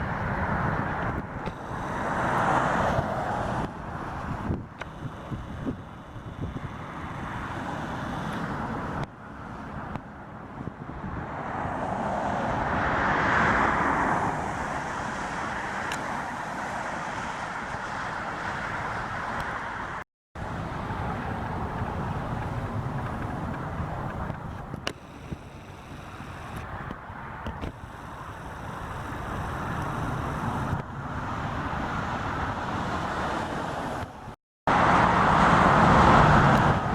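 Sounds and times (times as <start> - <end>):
jet engines rumbling: 0.0 - 10.6, 11.2 - 36.9.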